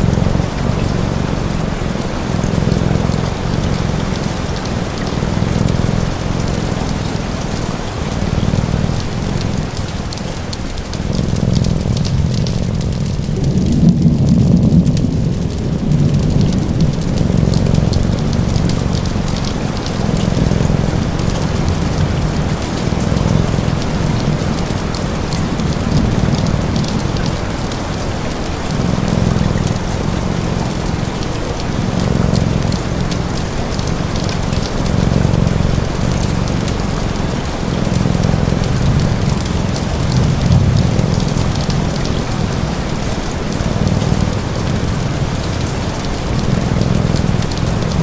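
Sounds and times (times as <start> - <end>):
cat purring: 0.0 - 48.0
steady rain: 0.0 - 48.0
wood fire crackling: 0.0 - 48.0.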